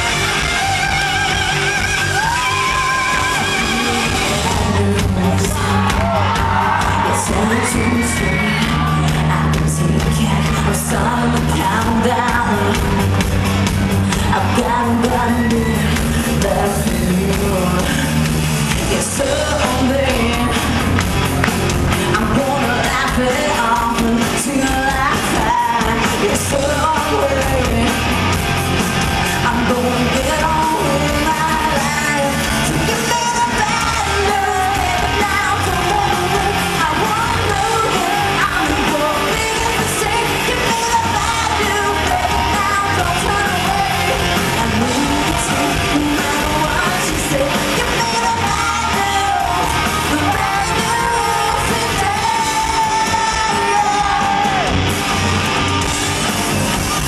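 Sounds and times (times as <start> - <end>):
woman singing lead: 0.0 - 56.2
drums: 0.0 - 57.0
electric guitar: 0.0 - 57.0.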